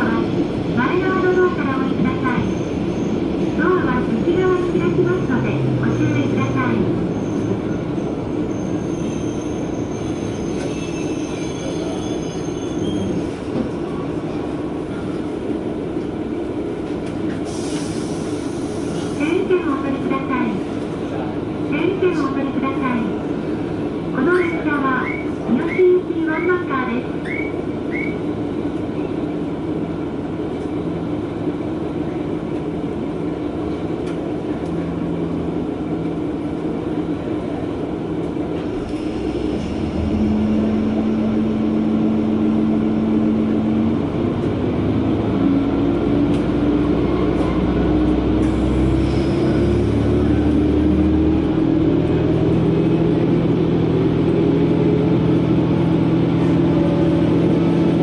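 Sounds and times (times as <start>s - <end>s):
diesel railcar engine: 0.0s - 58.0s
train running rumble: 0.0s - 58.0s.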